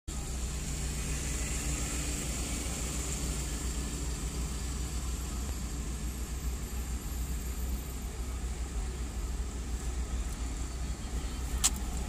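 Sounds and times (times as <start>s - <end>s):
car engine rumble: 0.1s - 12.0s
road noise: 0.1s - 12.0s.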